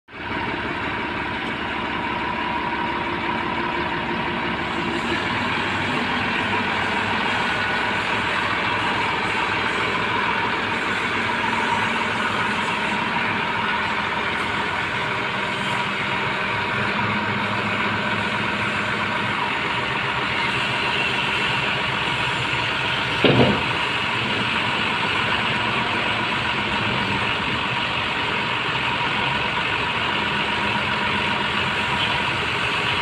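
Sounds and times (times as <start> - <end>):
steady high whine: 0.1 - 33.0
tractor diesel engine running: 0.1 - 33.0.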